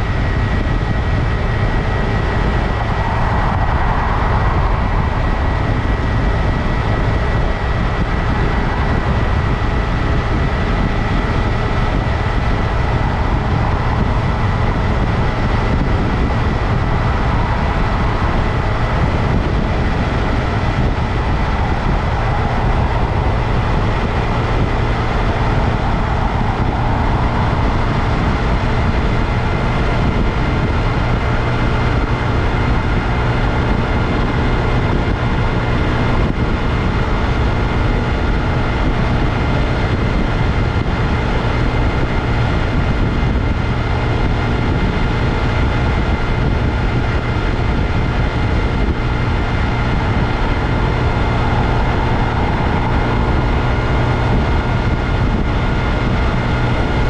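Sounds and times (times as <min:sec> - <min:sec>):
heavy wind noise: 0:00.0 - 0:57.0
high-pitched whine: 0:00.0 - 0:57.0
motorcycle engine running: 0:00.0 - 0:57.0
road noise: 0:00.0 - 0:57.0.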